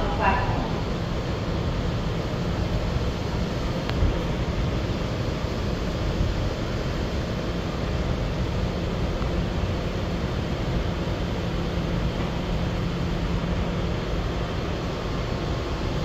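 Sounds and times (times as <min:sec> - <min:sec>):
subway car rumbling: 0:00.0 - 0:16.0.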